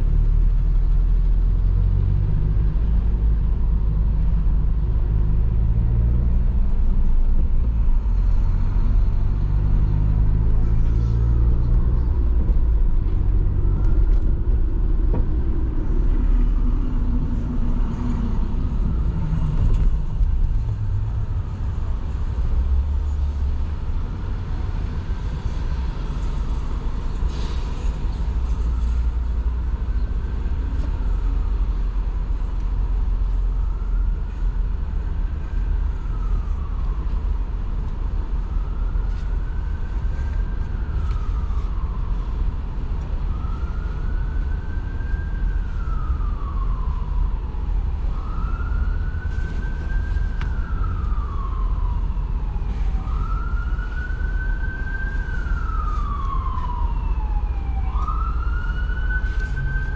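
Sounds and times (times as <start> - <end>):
city traffic rumble: 0.0 - 59.9
emergency siren wailing: 10.4 - 59.9.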